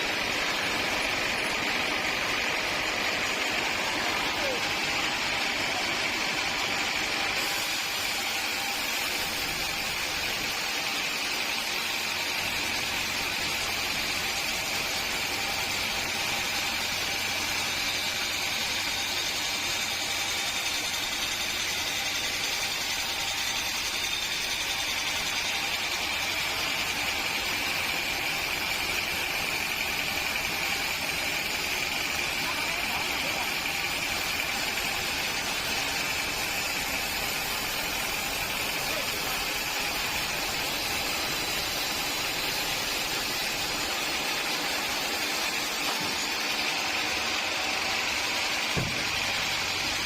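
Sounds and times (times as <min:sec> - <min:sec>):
sawmill machinery running: 0:00.0 - 0:50.0.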